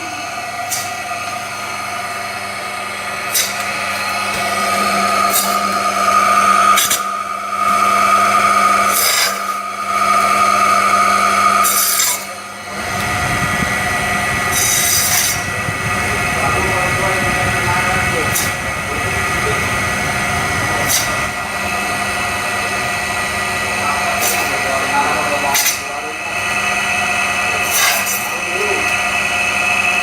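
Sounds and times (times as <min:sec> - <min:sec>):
cutting machine whining: 0:00.0 - 0:30.0.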